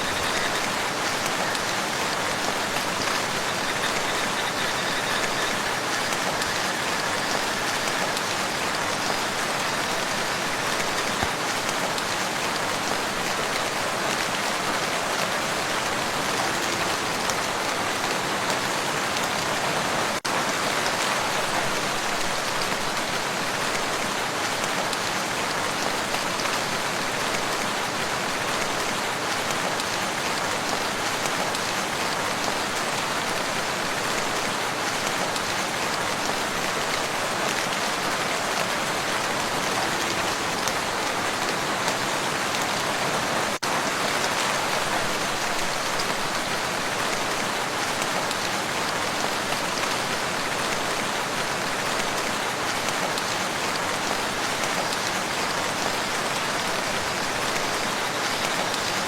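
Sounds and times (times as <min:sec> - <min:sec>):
rain falling on a lake: 0:00.0 - 0:59.0.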